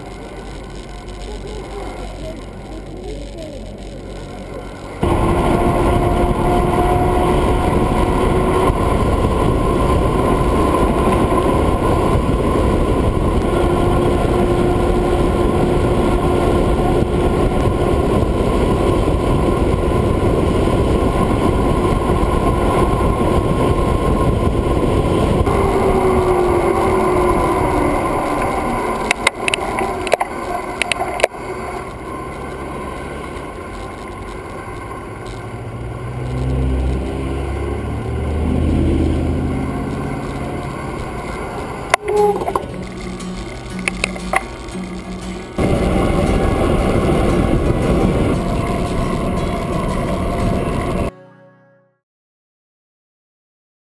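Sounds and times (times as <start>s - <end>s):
wind rushing over microphone: 0.0s - 51.1s
road noise: 0.0s - 51.5s.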